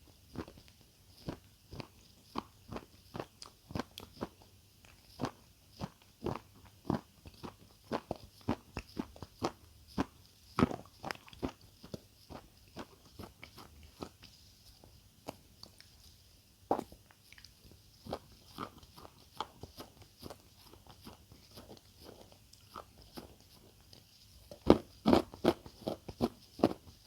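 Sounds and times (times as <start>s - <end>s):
chewing crunchy food: 0.0s - 27.0s.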